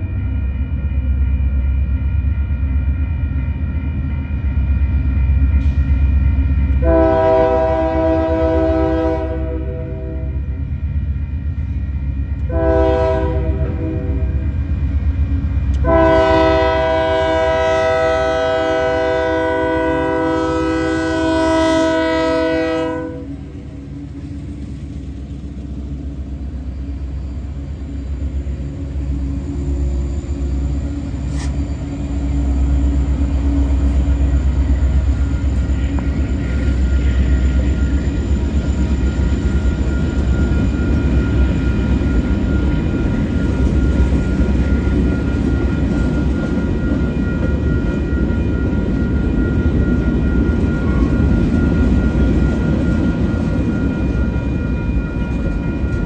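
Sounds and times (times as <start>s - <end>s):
diesel locomotive engine drone: 0.0s - 56.0s
freight cars rumbling over rails: 0.0s - 56.0s.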